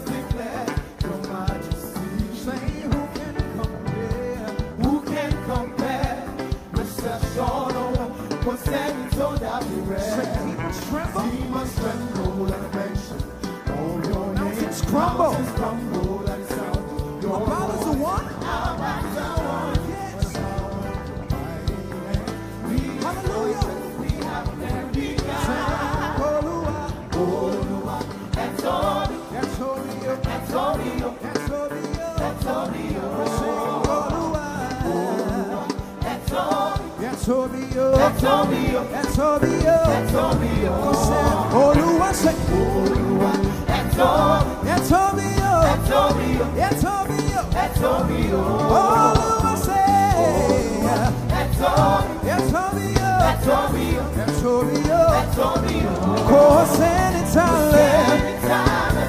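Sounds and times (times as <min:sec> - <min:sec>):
band with bass and drums: 0:00.0 - 0:59.0
gospel singers: 0:00.0 - 0:59.0.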